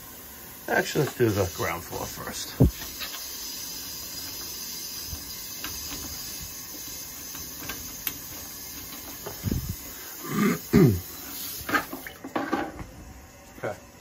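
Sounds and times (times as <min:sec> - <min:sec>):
water hissing through valve: 0:00.0 - 0:12.2.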